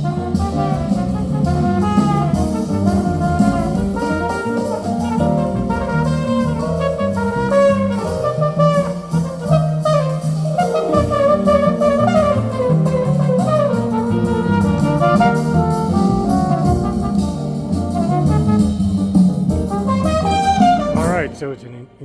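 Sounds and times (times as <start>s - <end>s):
jazz with brass and drums: 0.0s - 21.6s.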